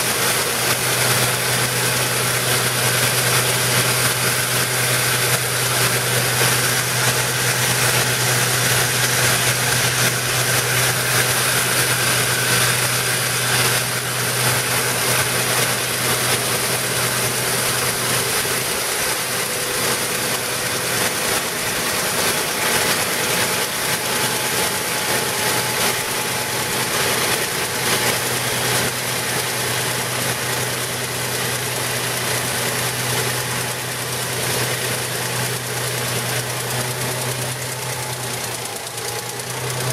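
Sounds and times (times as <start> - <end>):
truck engine and pump drone: 0.0 - 39.9.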